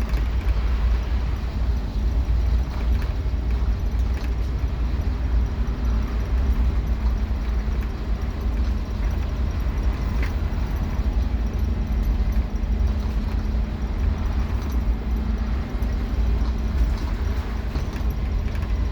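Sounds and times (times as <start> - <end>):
bus engine and road rumble: 0.0 - 18.9.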